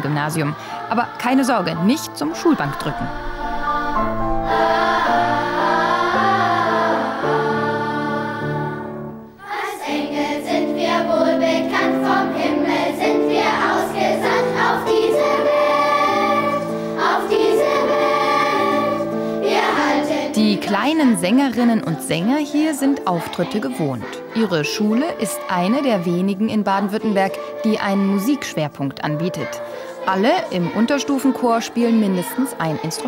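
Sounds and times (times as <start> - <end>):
children's choir singing: 0.0 - 33.0
grand piano accompaniment: 0.0 - 33.0.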